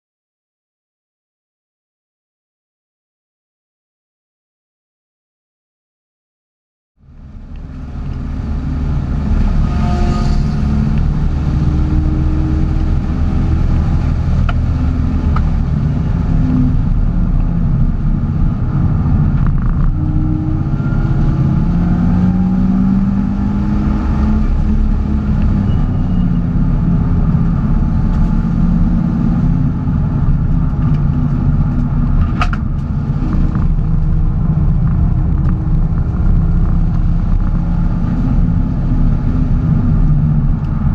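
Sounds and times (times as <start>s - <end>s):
car engine and road noise: 7.0s - 40.9s.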